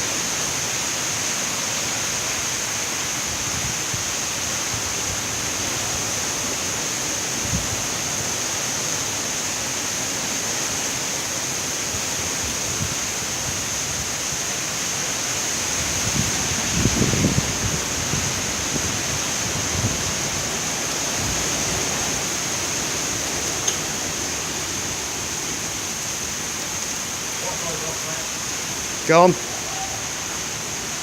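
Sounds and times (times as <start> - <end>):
strong wind and rain: 0.0 - 31.0.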